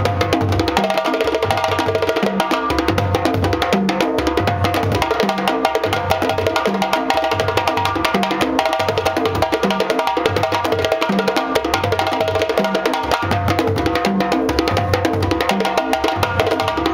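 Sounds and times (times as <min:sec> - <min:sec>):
djembe solo: 0:00.0 - 0:16.9.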